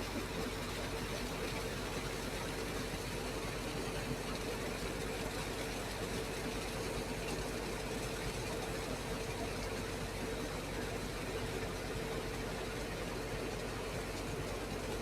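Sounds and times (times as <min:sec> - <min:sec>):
rushing water: 0:00.0 - 0:15.0
water pump engine hum: 0:00.0 - 0:15.0.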